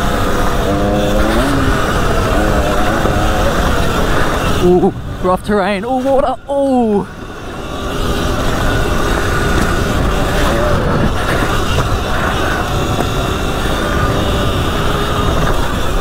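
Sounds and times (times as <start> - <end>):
wind on microphone: 0.0 - 5.4, 7.0 - 16.0
electric motor whine: 0.0 - 16.0.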